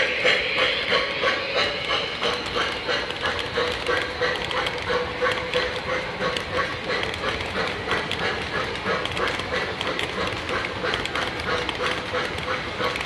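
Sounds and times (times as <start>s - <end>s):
model train wheels clicking: 0.0s - 13.0s.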